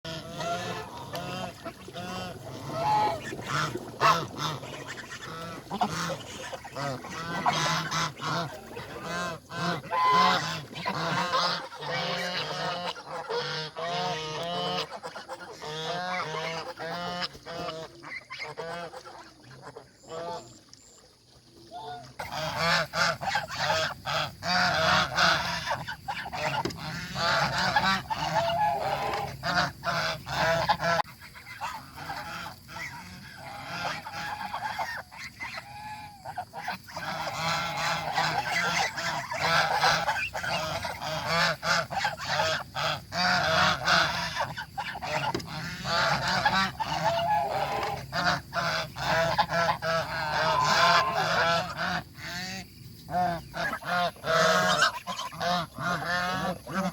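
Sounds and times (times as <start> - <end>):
geese honking: 0.1 - 20.5, 21.7 - 56.9.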